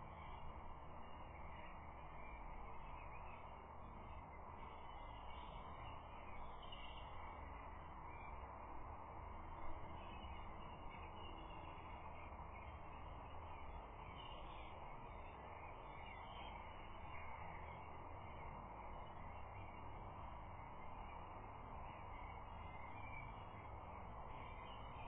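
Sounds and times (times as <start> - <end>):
distant bird calls: 0.0 - 25.0
steady background hiss: 0.0 - 25.0.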